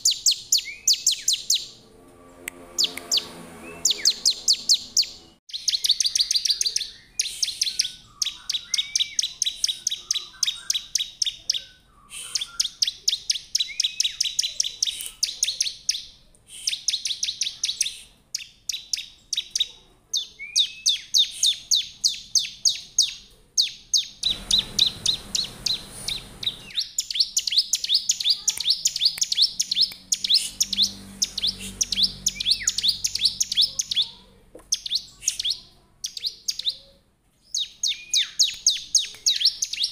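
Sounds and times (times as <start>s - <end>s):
bird singing high chirps: 0.0s - 1.8s, 2.6s - 39.9s.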